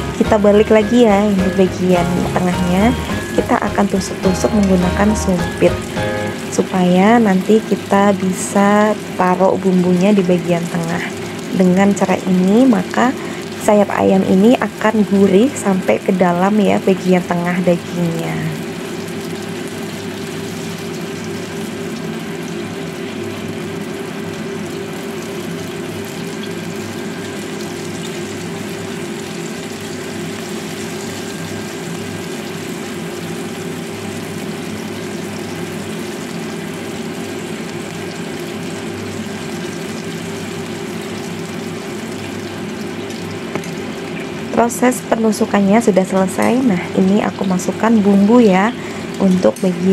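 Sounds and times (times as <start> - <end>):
chicken wings sizzling in oil: 0.0 - 49.9
low machine hum: 0.0 - 49.9.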